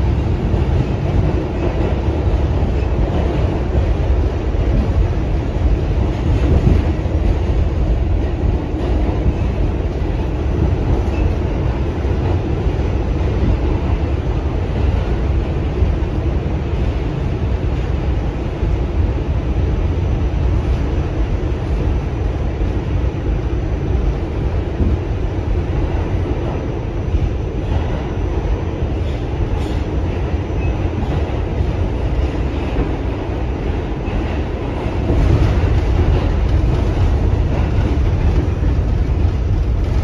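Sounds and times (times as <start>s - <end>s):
subway train wheels rumbling: 0.0s - 40.0s.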